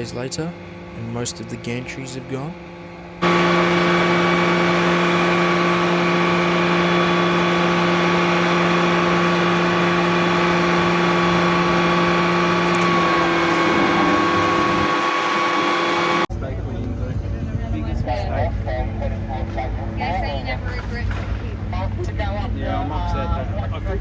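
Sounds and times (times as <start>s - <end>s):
machine droning: 0.0s - 24.0s.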